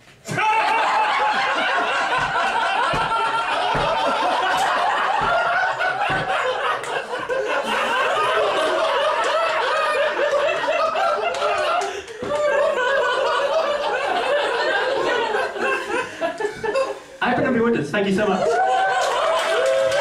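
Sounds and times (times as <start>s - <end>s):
audience laughing: 0.4s - 17.2s.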